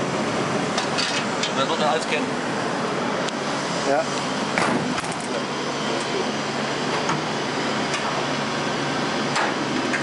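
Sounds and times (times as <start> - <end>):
printing press humming: 0.0 - 10.0.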